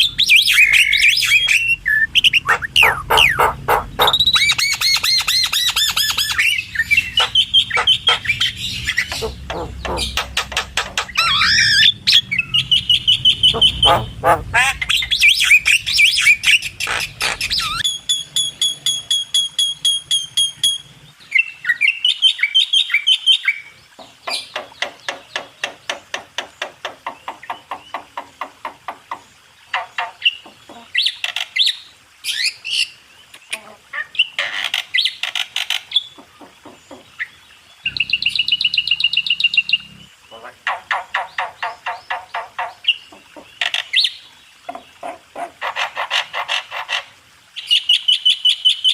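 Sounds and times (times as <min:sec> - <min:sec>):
birds chattering and whistling: 0:00.0 - 0:28.3, 0:29.0 - 0:45.5.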